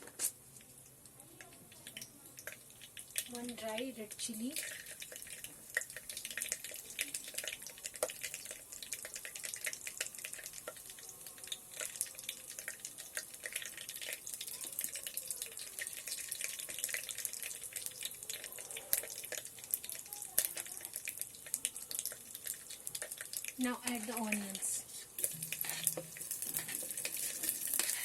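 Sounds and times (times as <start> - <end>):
seeds sizzling in hot oil: 0.1 - 28.0.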